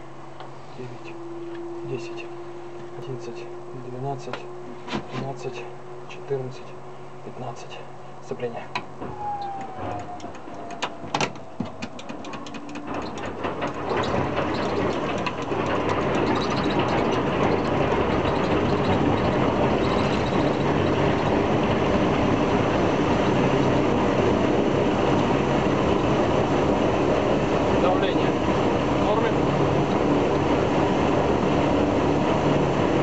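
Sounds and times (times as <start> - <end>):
radial engine starting and running: 0.0 - 33.0
starter whine: 0.0 - 33.0.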